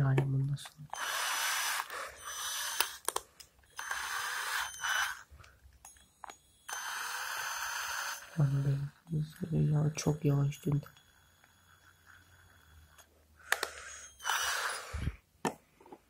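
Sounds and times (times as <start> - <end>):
cordless drill motor: 0.8 - 15.2.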